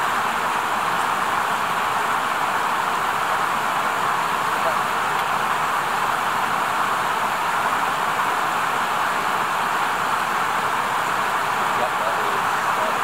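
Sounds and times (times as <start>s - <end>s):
rushing mountain stream: 0.0s - 13.0s.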